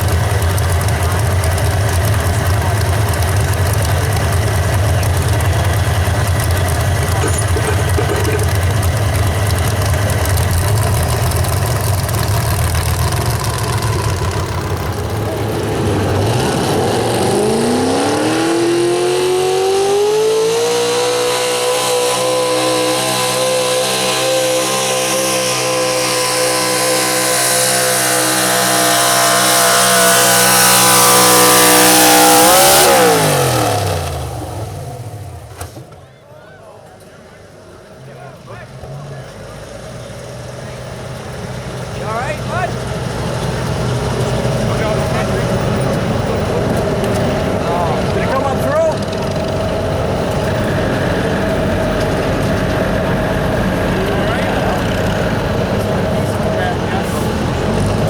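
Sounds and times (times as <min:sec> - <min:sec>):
pulling truck engine revving: 0:00.0 - 0:58.0.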